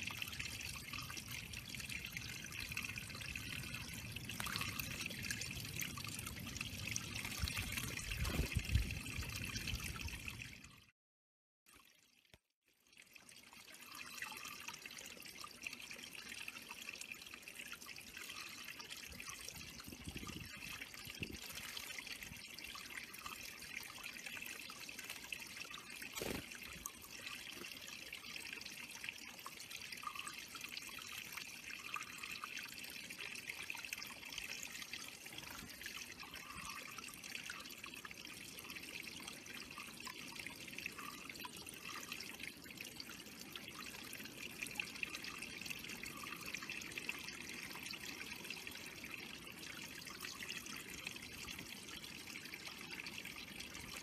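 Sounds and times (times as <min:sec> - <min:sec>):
water trickling over stones: 0:00.0 - 0:10.9, 0:11.7 - 0:54.0.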